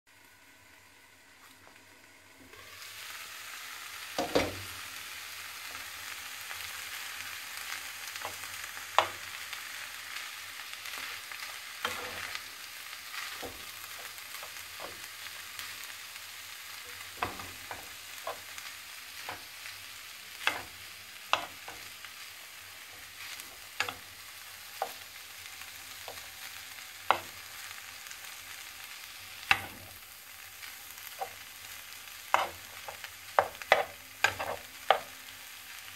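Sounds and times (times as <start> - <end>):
food sizzling in a frying pan: 0.1 - 35.9.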